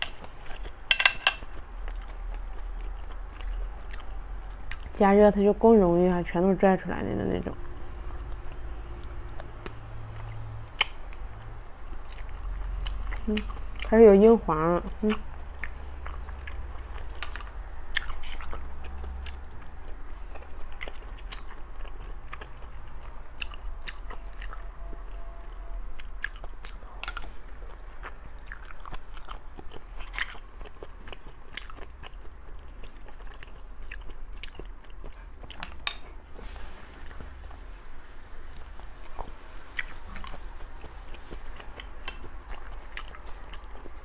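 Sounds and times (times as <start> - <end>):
chewing and biting: 0.0 - 5.0, 7.6 - 13.9, 15.0 - 24.8, 26.0 - 37.6, 38.3 - 44.0.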